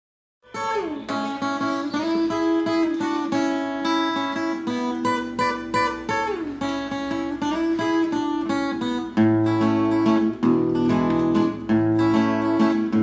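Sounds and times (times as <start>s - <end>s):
acoustic guitar with sliding notes: 0.5s - 13.0s.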